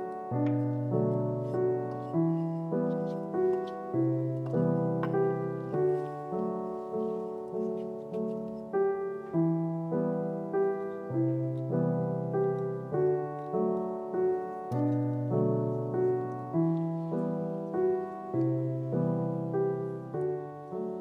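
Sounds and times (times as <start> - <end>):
gentle piano tune: 0.0 - 21.0.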